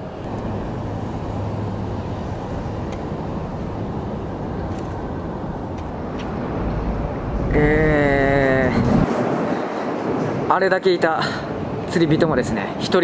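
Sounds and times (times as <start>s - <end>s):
distant road traffic rumble: 0.0s - 12.8s.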